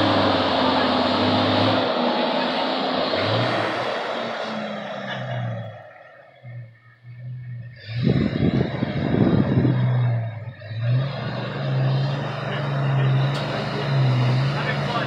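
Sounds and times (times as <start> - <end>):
car engine running: 0.0 - 15.0
low rumbling noise: 0.0 - 15.0.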